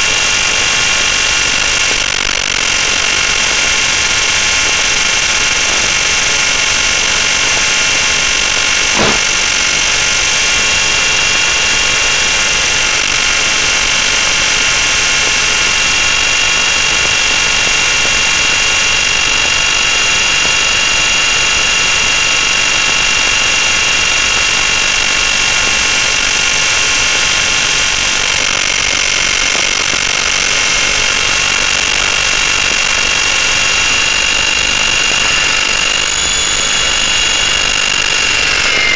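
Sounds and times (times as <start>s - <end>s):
helicopter motor and rotor whine: 0.0s - 38.9s.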